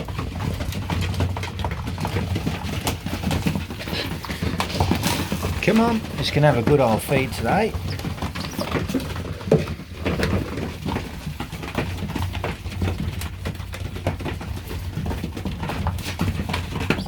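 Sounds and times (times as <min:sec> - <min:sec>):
pigeons pecking seed: 0:00.0 - 0:17.0.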